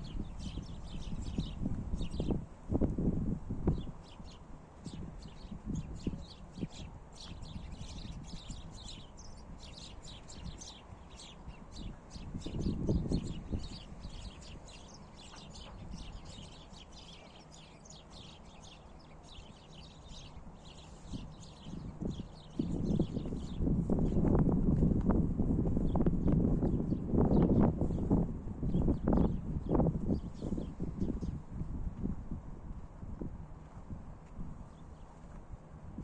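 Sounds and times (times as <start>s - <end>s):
small birds chirping: 0.0s - 24.8s, 25.8s - 31.8s, 34.2s - 35.6s
wind rumble on microphone: 0.0s - 36.0s.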